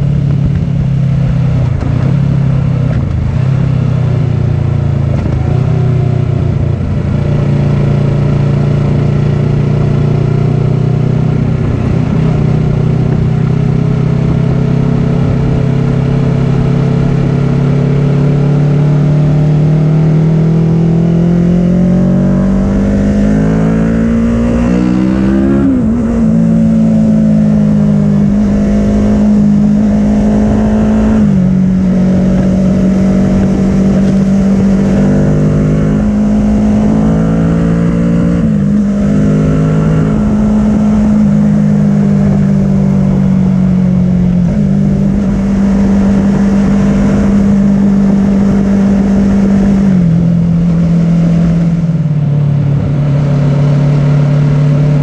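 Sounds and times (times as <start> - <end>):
motorcycle engine revving: 0.0 - 55.0
wind noise: 0.0 - 55.0.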